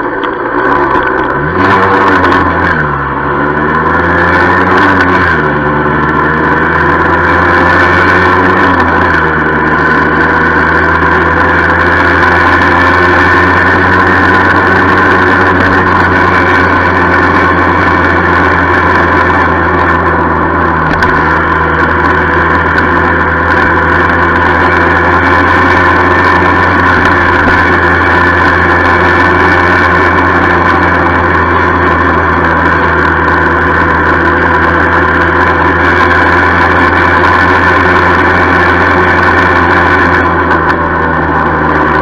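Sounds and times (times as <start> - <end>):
moped engine running: 0.0 - 42.0
rattle: 0.0 - 42.0.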